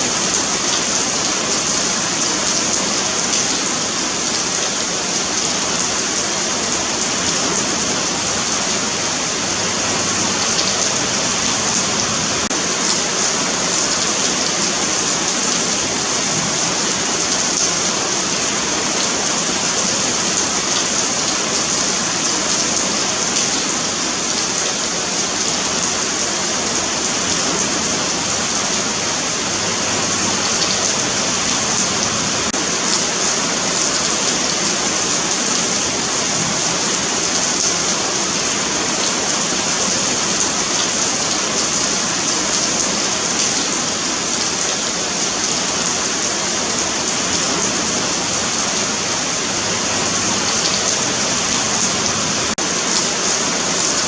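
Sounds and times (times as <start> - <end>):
rain falling on pavement: 0.0 - 54.0.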